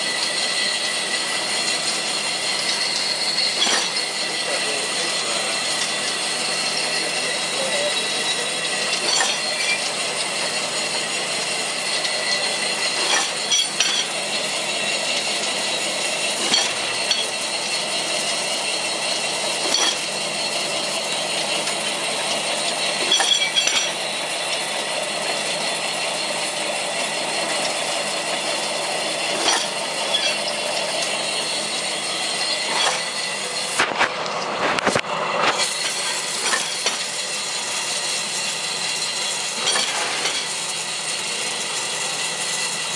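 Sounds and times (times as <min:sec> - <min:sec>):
mechanical clatter of machine: 0:00.0 - 0:42.9.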